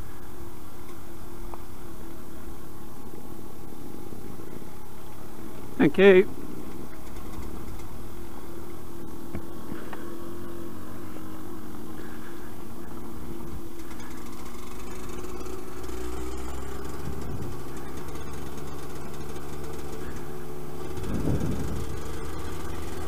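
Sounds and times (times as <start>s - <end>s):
two-stroke motorcycle engine running: 0.0s - 23.0s.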